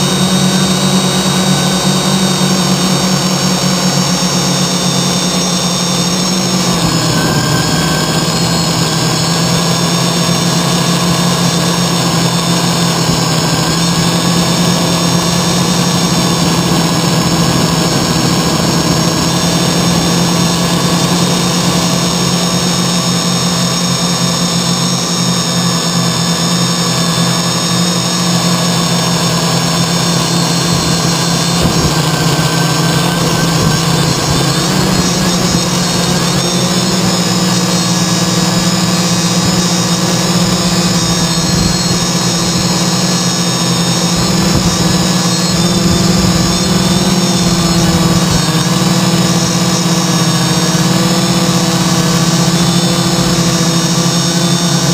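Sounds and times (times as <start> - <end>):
high whining tones: 0.0 - 54.9
multirotor motors droning: 0.0 - 54.9.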